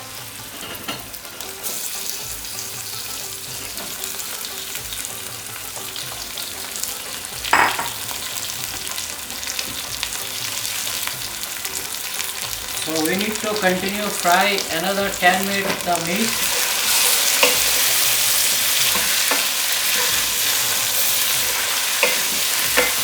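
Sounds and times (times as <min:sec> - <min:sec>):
meat sizzling in hot oil: 0:00.0 - 0:23.0.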